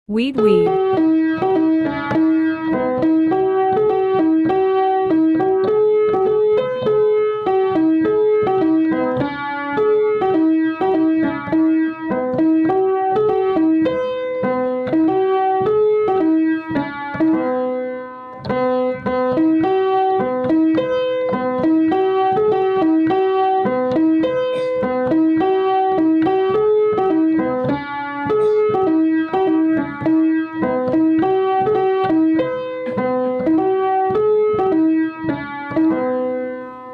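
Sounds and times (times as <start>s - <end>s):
electric keyboard melody: 0.2s - 36.9s.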